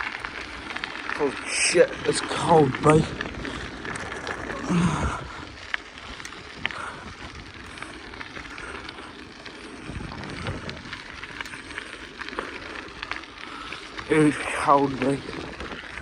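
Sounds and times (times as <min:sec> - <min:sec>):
bike clicks and rattles: 0:00.0 - 0:16.0
bike tyre noise on pavement: 0:00.0 - 0:16.0
wind buffeting microphone: 0:00.0 - 0:16.0.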